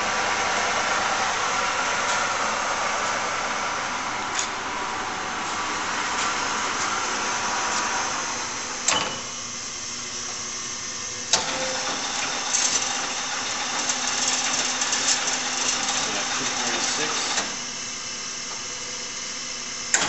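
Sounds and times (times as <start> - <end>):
lathe running: 0.0 - 8.9, 9.6 - 18.6.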